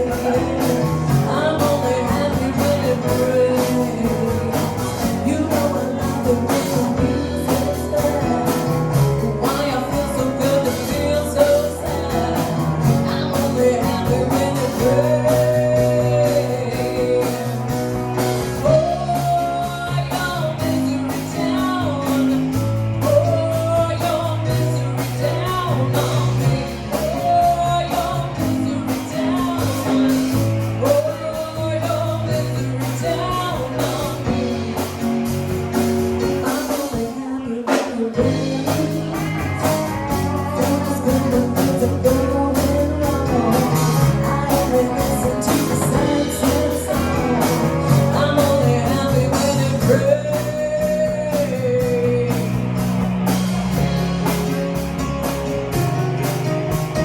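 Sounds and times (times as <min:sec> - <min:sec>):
bass guitar: 0:00.0 - 0:57.0
drums: 0:00.0 - 0:57.0
electric guitar lead melody: 0:00.0 - 0:57.0.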